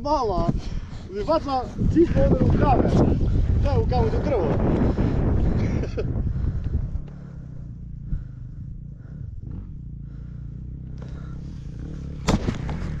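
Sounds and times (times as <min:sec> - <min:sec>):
motorcycle engine idling: 0:00.1 - 0:13.0.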